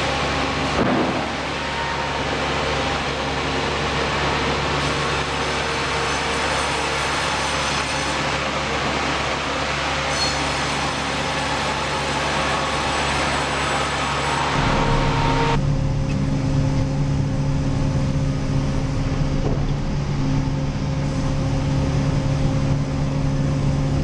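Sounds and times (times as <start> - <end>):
sawmill machinery hum: 0.0 - 24.0.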